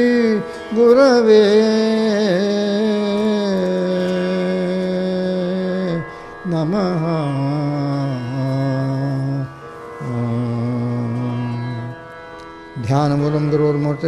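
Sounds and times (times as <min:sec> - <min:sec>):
person chanting: 0:00.0 - 0:12.0, 0:12.8 - 0:14.0.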